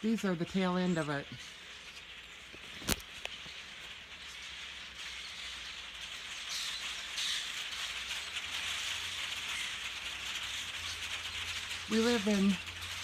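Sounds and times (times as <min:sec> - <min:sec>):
flock of blackbirds calling: 0:00.0 - 0:13.0.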